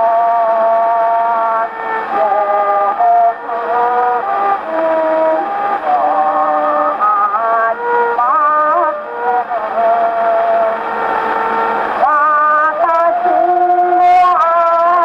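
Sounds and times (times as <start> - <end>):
old gramophone song with vibrato: 0.0 - 15.0
record surface hiss: 0.0 - 15.0.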